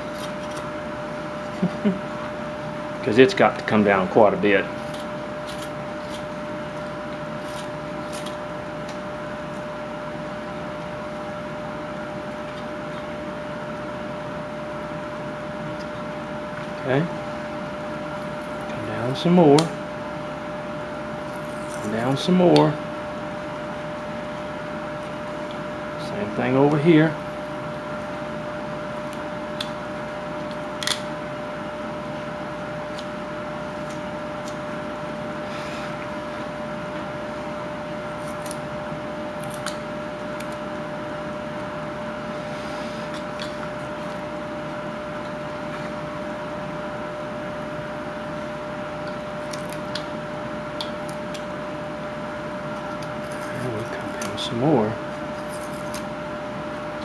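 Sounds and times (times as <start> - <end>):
steady room hum: 0.0 - 57.0.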